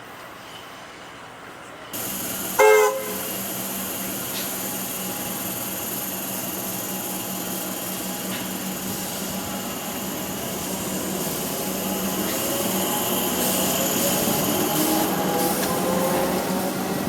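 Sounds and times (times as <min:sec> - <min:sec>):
electric train hum: 0:01.6 - 0:17.0
traction motors whining: 0:02.0 - 0:17.0.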